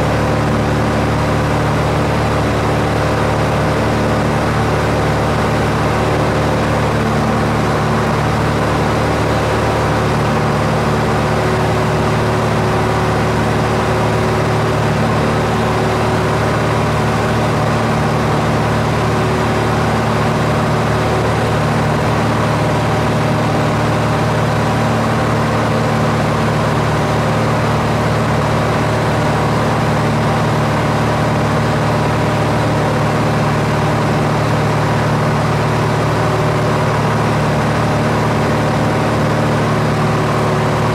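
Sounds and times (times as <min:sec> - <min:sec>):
aircraft engine drone: 0:00.0 - 0:40.9.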